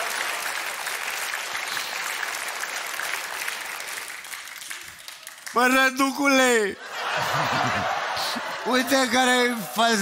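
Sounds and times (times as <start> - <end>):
studio audience applauding: 0.0 - 10.0.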